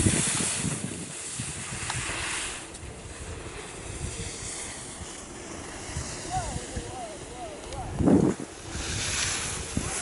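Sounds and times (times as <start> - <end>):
skis sliding on snow: 0.0 - 10.0
wind buffeting microphone: 0.0 - 10.0.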